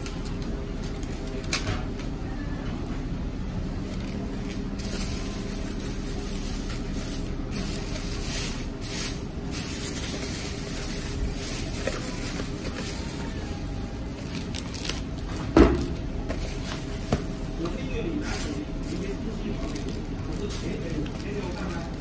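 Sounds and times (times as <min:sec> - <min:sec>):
plastic bag rustling: 0:03.9 - 0:22.0.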